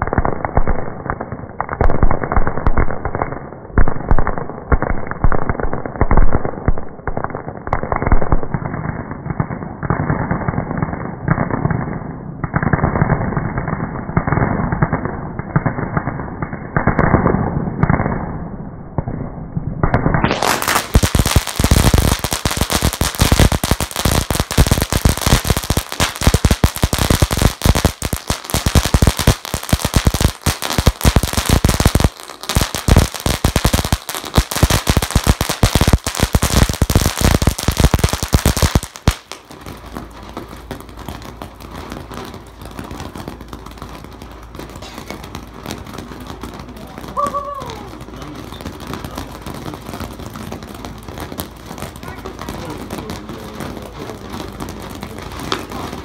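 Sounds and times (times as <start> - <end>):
firecrackers popping: 0.0 - 56.0.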